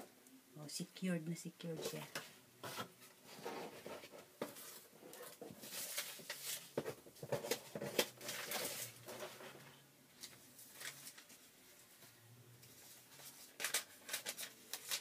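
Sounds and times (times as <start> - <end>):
paper and cardboard rustling: 1.7 - 15.0.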